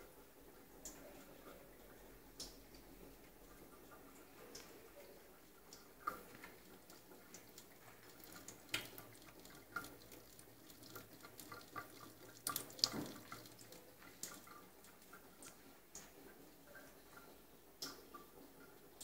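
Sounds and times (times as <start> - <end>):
water dripping from a tap: 0.0 - 19.0
cat lapping water: 0.6 - 19.0.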